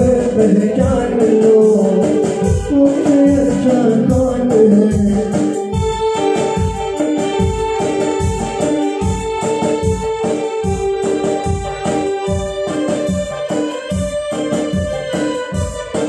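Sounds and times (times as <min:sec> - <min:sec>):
electric piano melody: 0:00.0 - 0:16.0
hand drums beat: 0:00.0 - 0:16.0.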